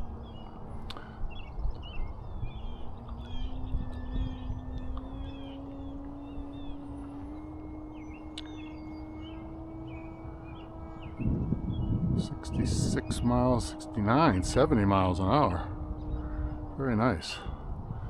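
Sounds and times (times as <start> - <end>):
birds chirping: 0.0 - 18.0
model plane electric motor drone: 0.0 - 18.0
wind rumble on microphone: 0.0 - 18.0.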